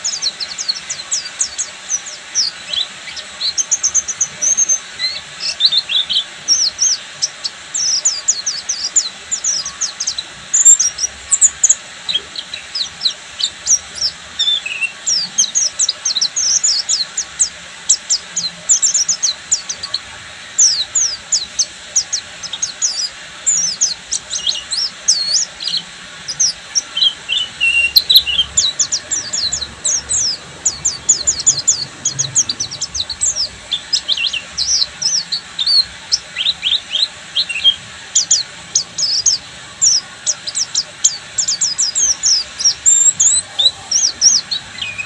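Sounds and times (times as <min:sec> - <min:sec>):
bird twittering song: 0:00.0 - 0:45.0.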